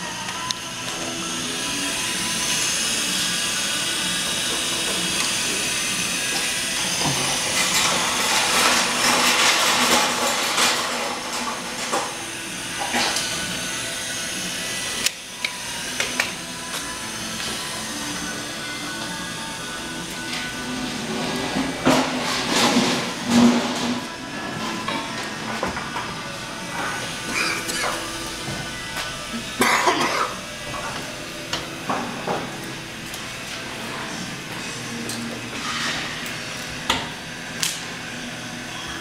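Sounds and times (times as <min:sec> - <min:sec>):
gas burners hissing: 0:00.0 - 0:39.0.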